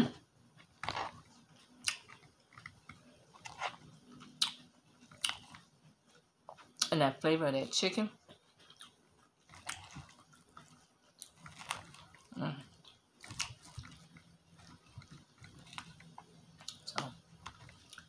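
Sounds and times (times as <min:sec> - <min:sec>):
person chewing crunchy food: 0:00.6 - 0:06.9, 0:08.3 - 0:18.0.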